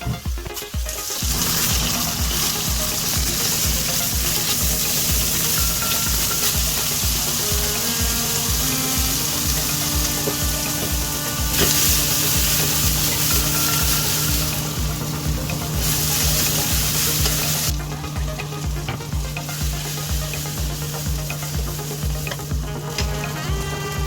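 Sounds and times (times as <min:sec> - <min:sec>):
meat sizzling in oil: 0:00.9 - 0:24.0.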